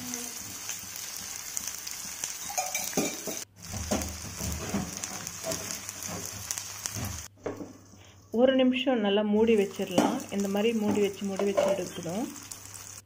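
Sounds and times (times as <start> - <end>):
slices frying in oil: 0.0 - 7.3, 9.4 - 13.0.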